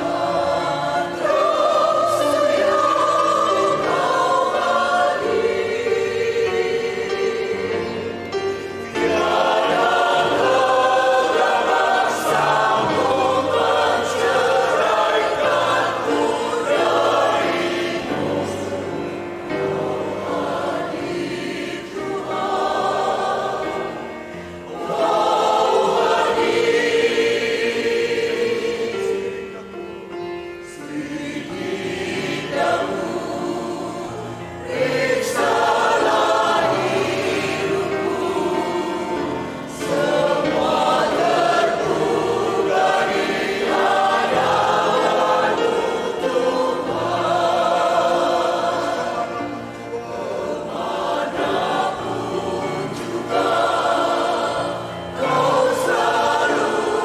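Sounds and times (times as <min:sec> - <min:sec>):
mixed choir singing a hymn: 0:00.0 - 0:57.0.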